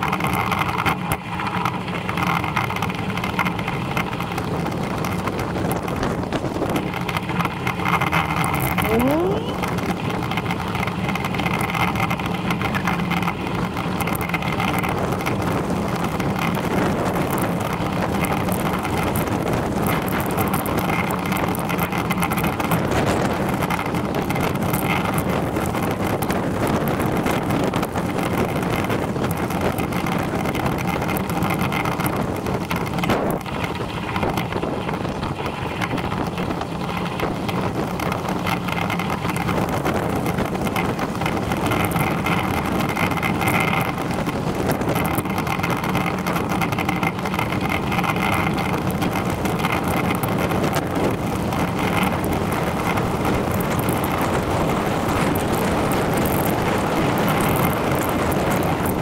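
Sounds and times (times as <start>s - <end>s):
bicycle rolling on tarmac: 0.0s - 59.0s
wind on microphone: 0.0s - 59.0s.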